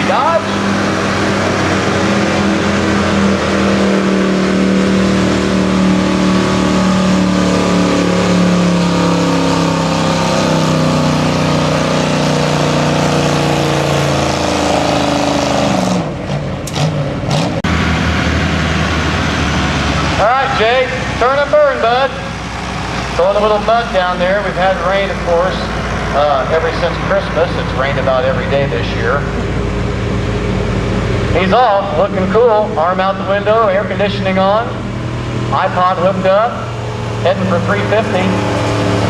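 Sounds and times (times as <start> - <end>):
truck engine idling: 0.0 - 39.0
truck engine revving hard: 0.0 - 39.0.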